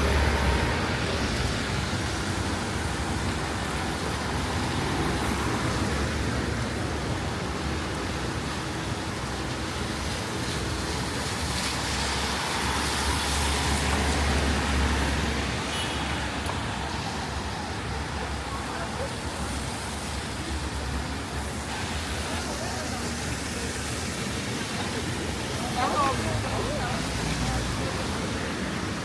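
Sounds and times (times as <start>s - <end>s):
street traffic hiss: 0.0s - 29.0s.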